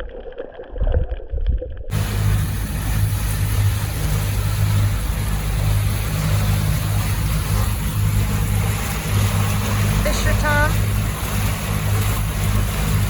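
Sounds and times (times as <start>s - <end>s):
boat engine humming: 1.9s - 13.0s
water rushing: 1.9s - 13.0s.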